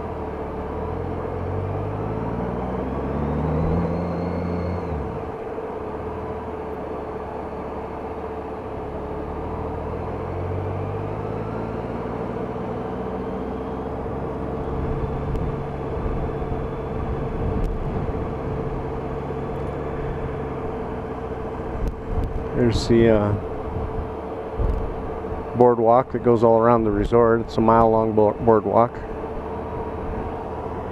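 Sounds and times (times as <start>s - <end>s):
road and wind noise: 0.0s - 30.9s
motorcycle engine running: 2.8s - 30.9s.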